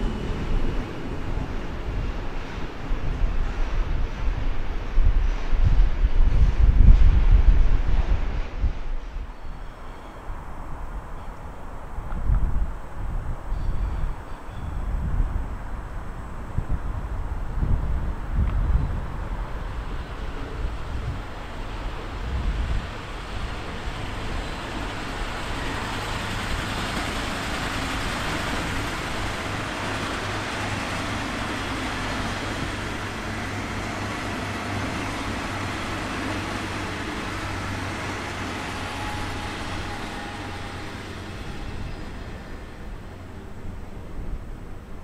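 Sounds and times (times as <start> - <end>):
train rolling past: 0.0 - 45.0.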